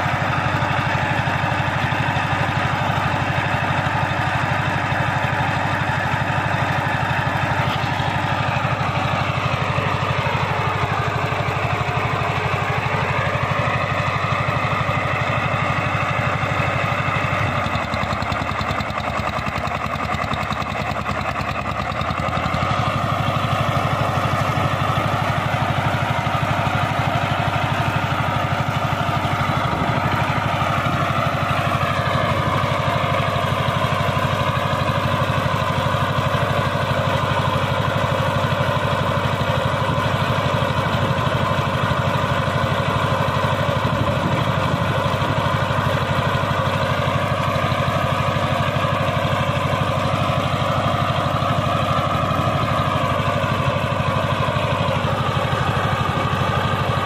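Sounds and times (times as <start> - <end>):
diesel tiller engine running: 0.0 - 57.0.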